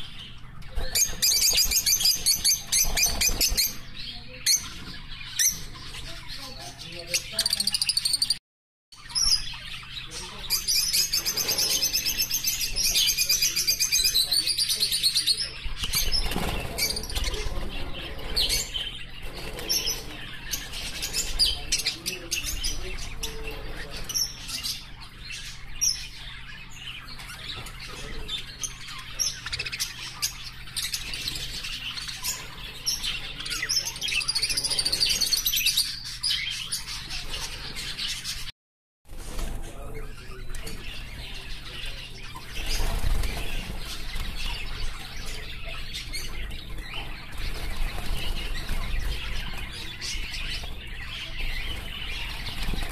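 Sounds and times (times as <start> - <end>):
cage birds chirping: 0.0 - 38.5, 39.1 - 52.9
fast trilling birdsong: 0.0 - 38.5, 39.8 - 52.9.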